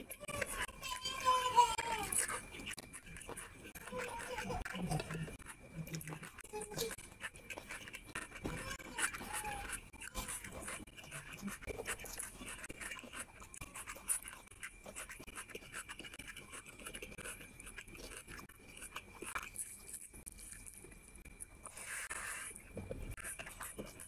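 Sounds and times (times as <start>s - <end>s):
chewing food: 0.0s - 24.0s.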